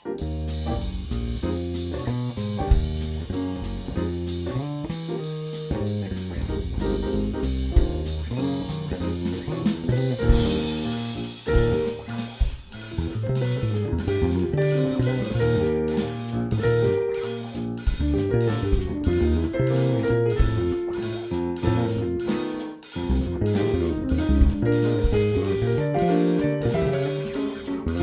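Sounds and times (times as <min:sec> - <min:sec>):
jazz guitar: 0:00.0 - 0:28.0
drum kit cymbals: 0:00.2 - 0:28.0
walking bass: 0:00.2 - 0:28.0.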